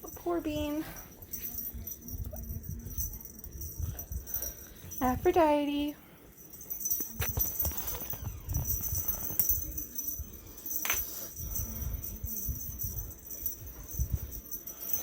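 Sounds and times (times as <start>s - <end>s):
jingly rattling: 0.0s - 15.0s.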